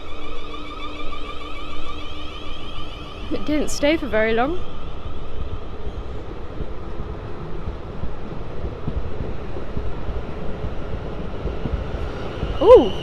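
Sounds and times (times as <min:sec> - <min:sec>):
train running heard on board: 0:00.0 - 0:13.0.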